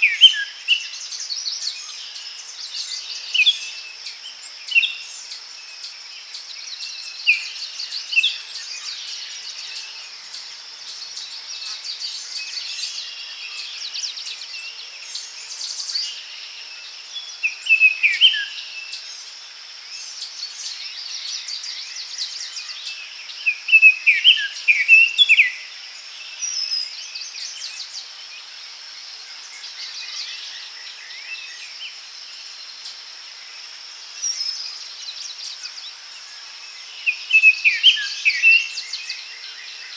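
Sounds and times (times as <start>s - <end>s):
birds calling and singing: 0.0s - 39.9s
high insect drone: 0.0s - 39.9s.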